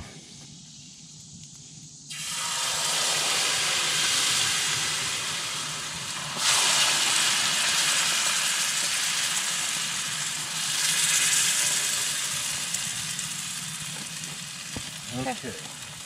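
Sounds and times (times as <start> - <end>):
butter sizzling in a pot: 2.1 - 16.0.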